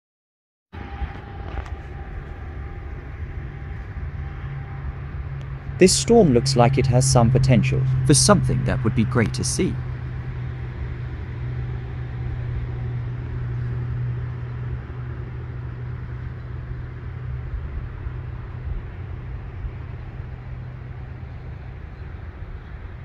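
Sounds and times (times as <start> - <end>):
low outdoor rumble: 0.8 - 23.0.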